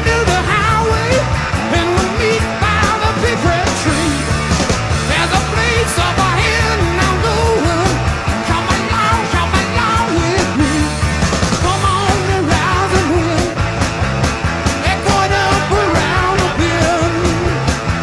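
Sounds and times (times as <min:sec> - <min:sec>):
rock music with vocals: 0:00.0 - 0:18.0.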